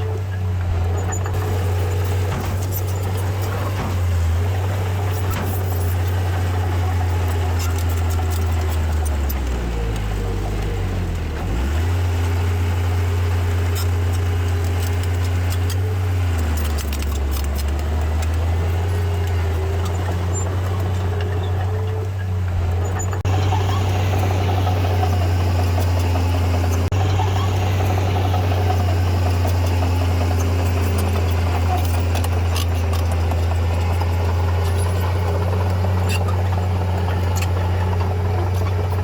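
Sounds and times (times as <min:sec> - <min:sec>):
heavy diesel engine under load: 0:00.0 - 0:39.0
light clicks and clanks: 0:00.1 - 0:10.8, 0:13.1 - 0:27.3, 0:28.2 - 0:39.0.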